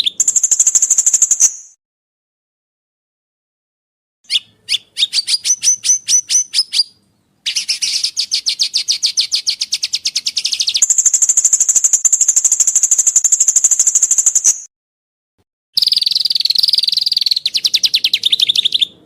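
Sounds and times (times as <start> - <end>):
bird buzzy trill: 0.0 - 1.8, 4.3 - 14.7, 15.8 - 19.0
sharp rising bird chirps: 0.0 - 1.8, 4.3 - 14.7, 15.8 - 19.0.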